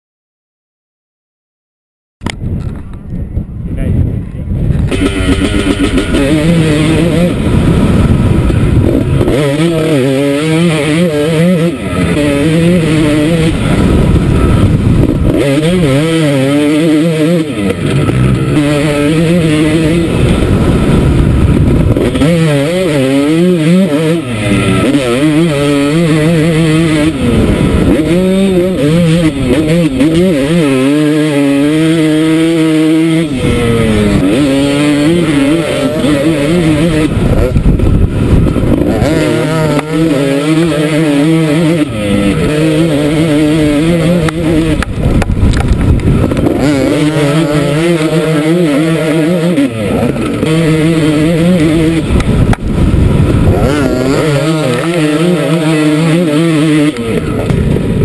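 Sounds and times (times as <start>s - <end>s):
motocross bike engine revving: 4.7s - 58.0s.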